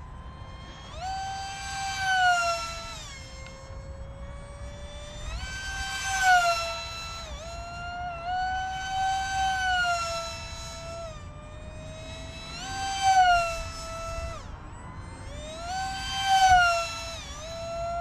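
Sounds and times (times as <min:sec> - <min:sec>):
model jet electric motor whine: 0:00.0 - 0:18.0.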